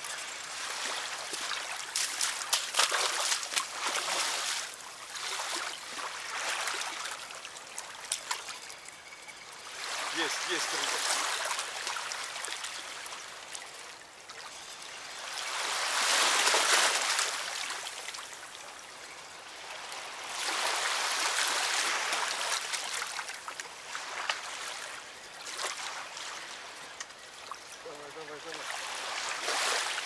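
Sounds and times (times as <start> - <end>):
river water rushing and lapping: 0.0 - 30.0.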